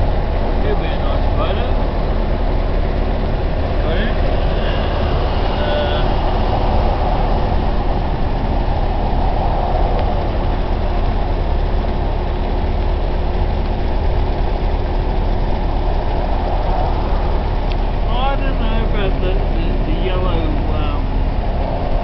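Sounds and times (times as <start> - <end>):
car interior driving drone: 0.0 - 22.0.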